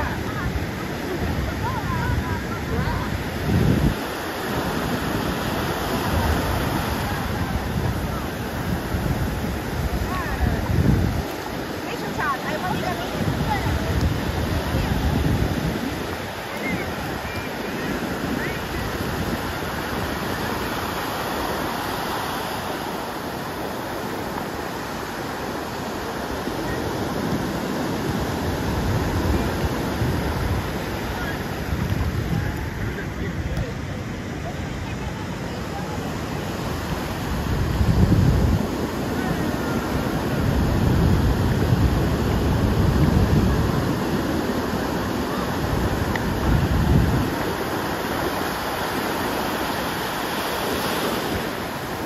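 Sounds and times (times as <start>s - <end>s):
ocean surf breaking: 0.0s - 52.0s
wind buffeting microphone: 0.0s - 52.0s.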